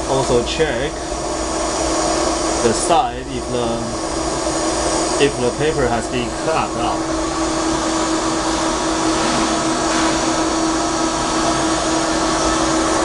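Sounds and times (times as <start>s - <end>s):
milling machine whirring hum: 0.0s - 13.0s.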